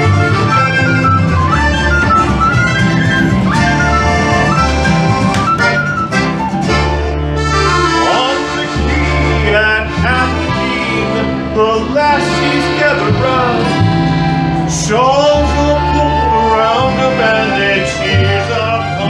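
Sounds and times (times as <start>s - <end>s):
tin whistle melody: 0.0s - 9.4s, 10.2s - 19.0s
accordion: 0.0s - 19.0s
plucked upright bass: 0.0s - 19.0s
strummed acoustic guitar: 0.0s - 19.0s.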